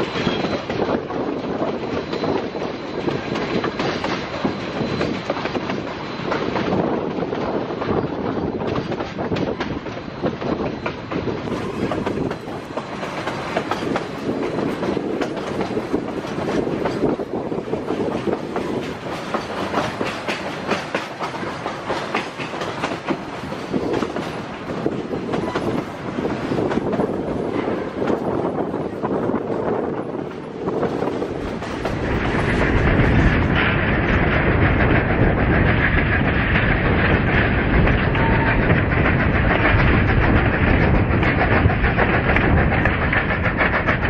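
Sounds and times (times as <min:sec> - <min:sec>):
train car rumble: 0:00.0 - 0:44.0
wheel clatter over rail joints: 0:00.0 - 0:44.0.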